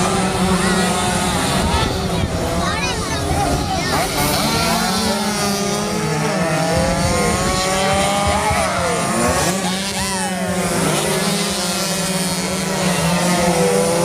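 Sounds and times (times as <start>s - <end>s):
racing motorcycles revving: 0.0s - 14.0s.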